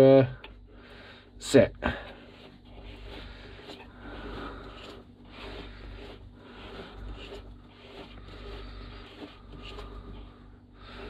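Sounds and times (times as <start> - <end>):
threaded fitting scraping and rustling: 1.8 - 11.0.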